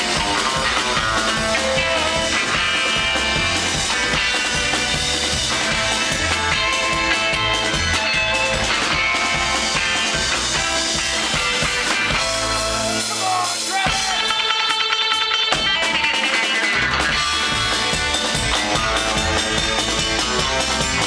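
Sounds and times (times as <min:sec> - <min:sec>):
electric guitars: 0:00.0 - 0:21.0
live rock band playing: 0:00.0 - 0:21.0.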